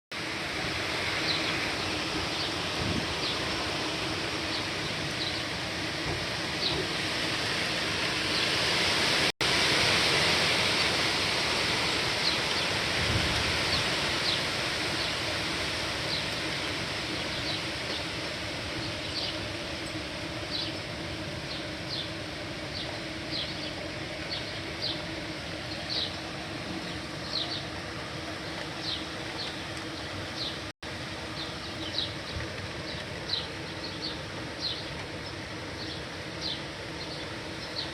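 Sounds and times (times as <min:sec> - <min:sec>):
heavy rain hiss: 0:00.1 - 0:37.9.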